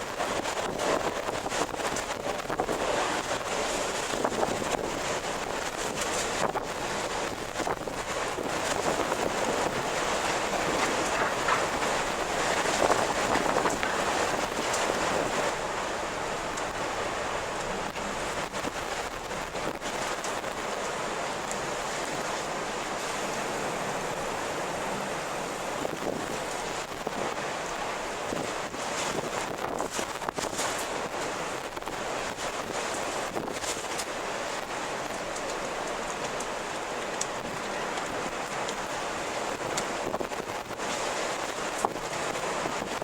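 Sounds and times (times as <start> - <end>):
strong wind blowing: 0.0 - 43.0.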